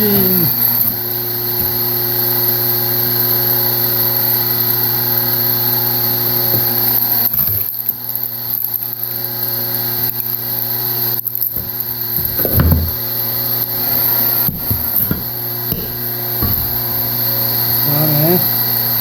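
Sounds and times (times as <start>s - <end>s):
log splitter motor humming: 0.0s - 19.0s.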